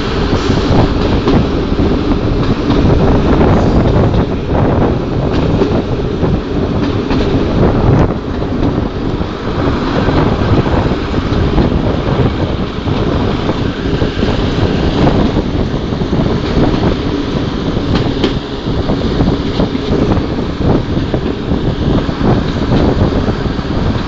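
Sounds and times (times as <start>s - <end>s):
railcar diesel engine pulling: 0.0s - 24.0s
train wheels on rails: 0.0s - 24.0s
wind buffeting microphone: 0.0s - 24.0s.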